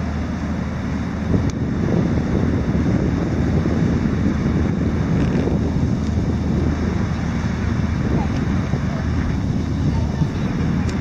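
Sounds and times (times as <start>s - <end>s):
cargo ship engine drone: 0.0s - 11.0s
wind buffeting microphone: 0.0s - 11.0s.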